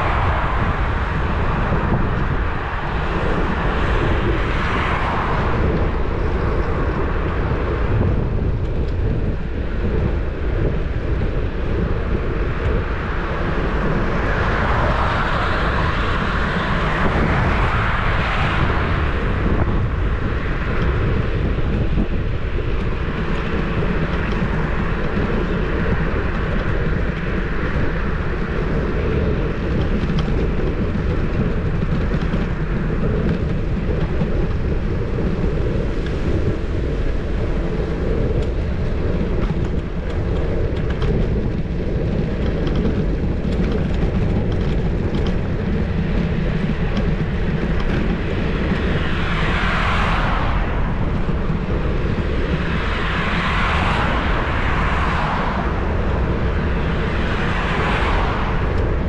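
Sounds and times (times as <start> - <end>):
tyre and road noise: 0.0 - 59.0
wind rushing on microphone: 0.0 - 59.0.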